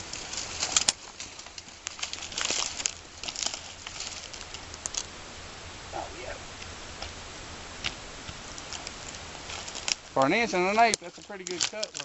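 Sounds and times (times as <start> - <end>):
rustling and crackling: 0.0 - 12.0.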